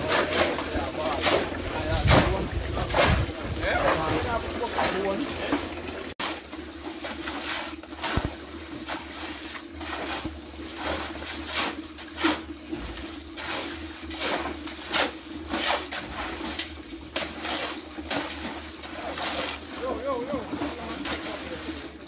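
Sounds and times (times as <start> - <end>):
shovel scraping wet concrete: 0.0 - 22.0.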